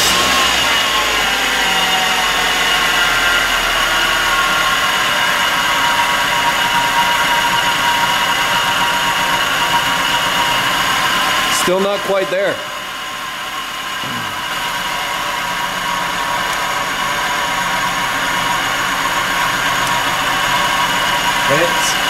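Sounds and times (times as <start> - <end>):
car engine idling with whine: 0.0 - 22.0.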